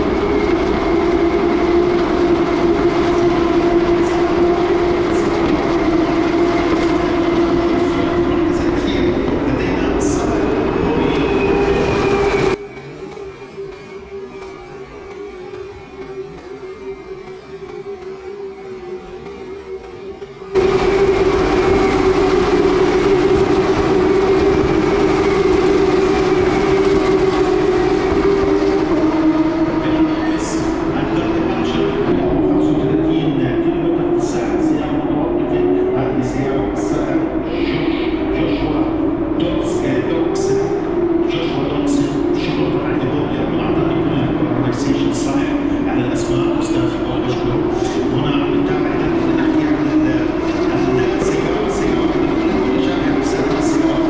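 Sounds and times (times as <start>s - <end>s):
steady engine drone: 0.0s - 54.0s.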